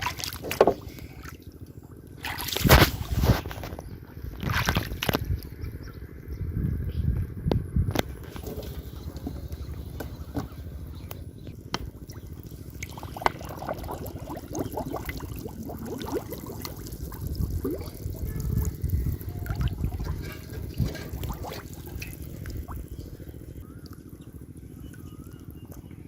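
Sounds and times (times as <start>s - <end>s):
water trickling and splashing: 0.0s - 5.5s, 8.2s - 26.0s
bubbly gurgles: 0.0s - 5.6s, 8.0s - 26.0s
water sloshing: 0.0s - 5.6s, 8.0s - 24.2s.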